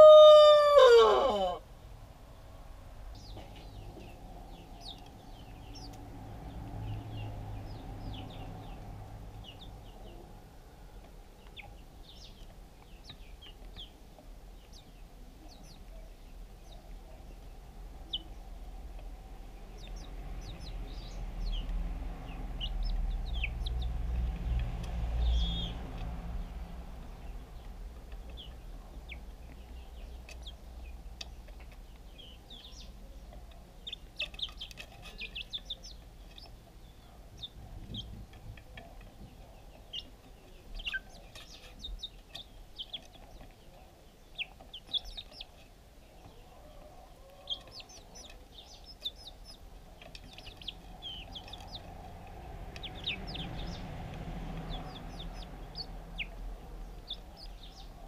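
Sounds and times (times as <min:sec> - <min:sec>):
low background rumble: 0:01.6 - 0:58.0
chicks peeping: 0:02.3 - 0:58.0.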